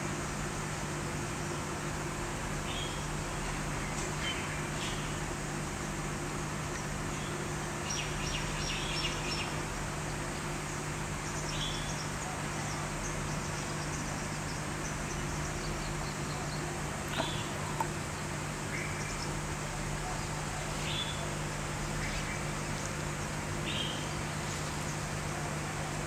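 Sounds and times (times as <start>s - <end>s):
constant low hum: 0.0s - 26.0s.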